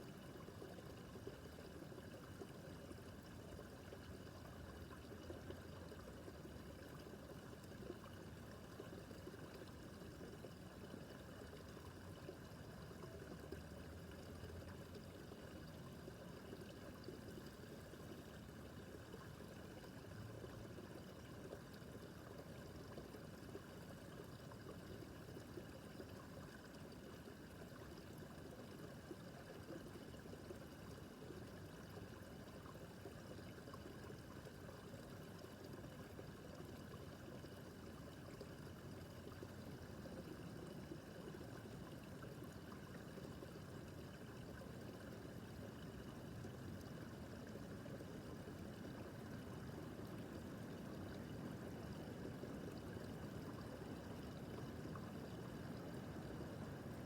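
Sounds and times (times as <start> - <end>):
brook trickling over stones: 0.0 - 57.0.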